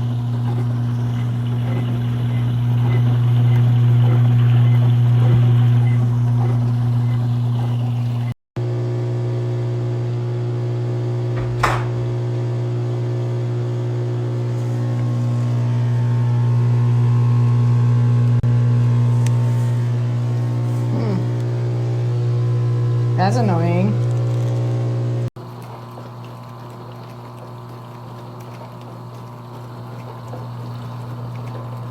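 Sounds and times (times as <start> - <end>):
dishwasher pump motor humming: 0.0 - 31.9.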